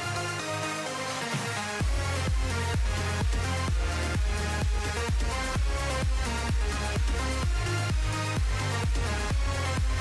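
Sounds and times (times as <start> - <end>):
electronic dance music: 0.0 - 10.0
kick drum beat: 1.8 - 10.0.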